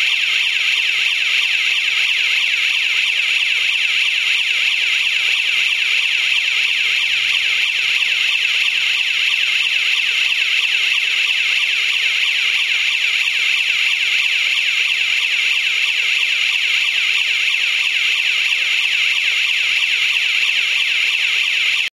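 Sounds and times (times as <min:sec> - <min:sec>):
electronic siren sweeping: 0:00.0 - 0:21.9.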